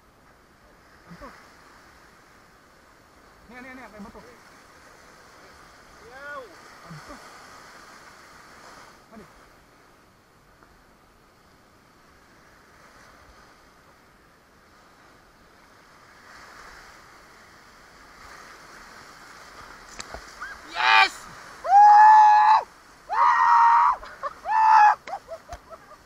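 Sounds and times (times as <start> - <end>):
surf washing over rocks: 0.0 - 26.0.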